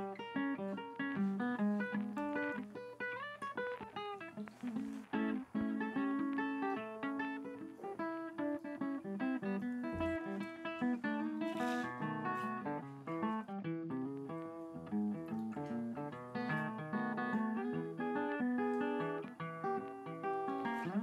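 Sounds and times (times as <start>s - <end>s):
guitar plucking lively notes: 0.0s - 21.0s.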